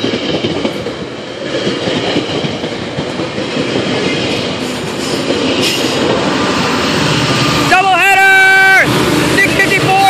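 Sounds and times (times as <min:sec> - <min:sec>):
train coaches rushing rumble: 0:00.0 - 0:10.0
wheels clacking on rails: 0:00.0 - 0:10.0.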